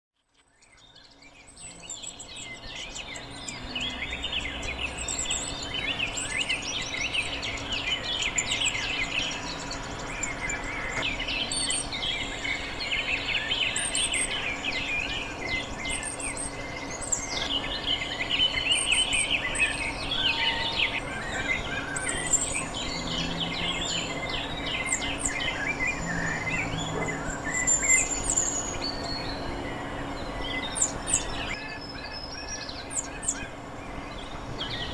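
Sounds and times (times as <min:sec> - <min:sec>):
birds chirping and calling: 0:00.3 - 0:34.9.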